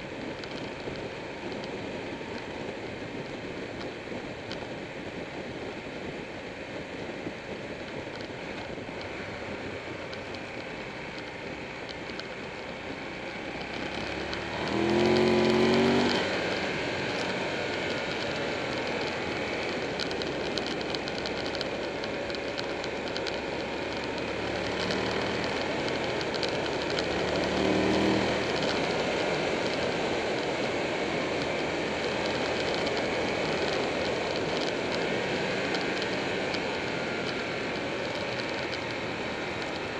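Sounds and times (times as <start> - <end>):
wind rush and road noise: 0.0 - 39.9
motorcycle engine: 7.0 - 39.9.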